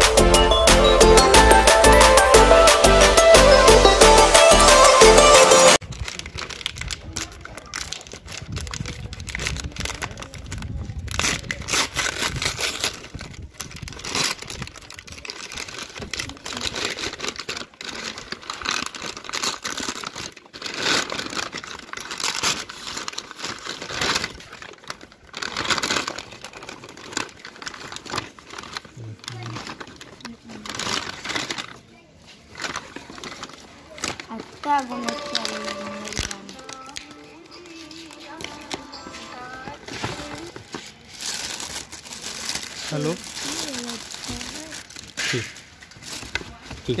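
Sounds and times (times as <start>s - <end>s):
paper bag crumpling and tearing: 5.8s - 47.0s.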